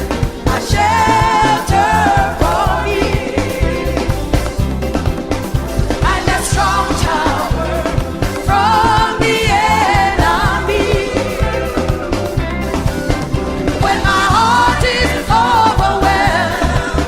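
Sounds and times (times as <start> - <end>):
people singing: 0.0 - 17.0.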